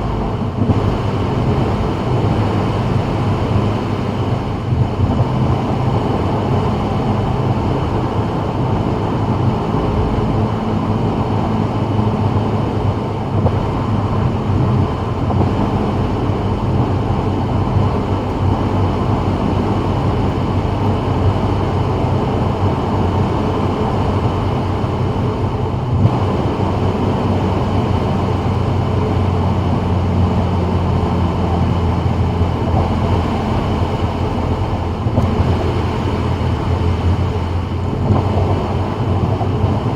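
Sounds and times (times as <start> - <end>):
low engine drone: 0.0 - 39.9
wind noise: 0.0 - 39.9.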